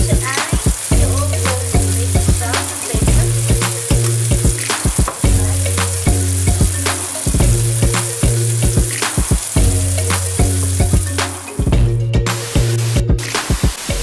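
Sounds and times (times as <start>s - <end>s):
vegetables sizzling in oil: 0.0s - 11.7s
background music with beat: 0.0s - 14.0s.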